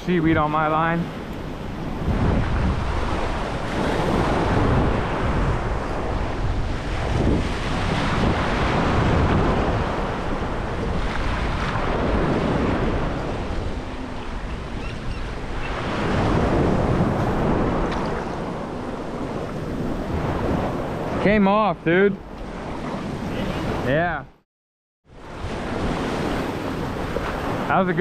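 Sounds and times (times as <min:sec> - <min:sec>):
ocean surf breaking: 0:00.0 - 0:24.2, 0:25.2 - 0:28.0.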